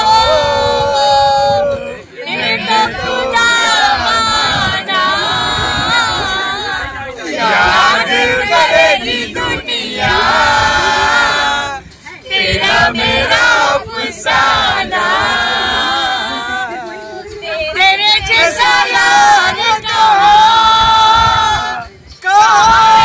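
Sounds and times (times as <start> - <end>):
voices singing without instruments: 0.0 - 23.0.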